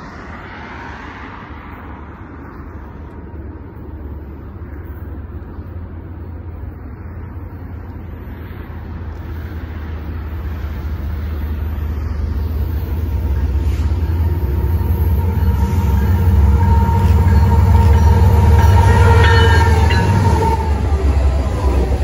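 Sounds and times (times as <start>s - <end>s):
diesel locomotive rumble: 1.4s - 22.0s.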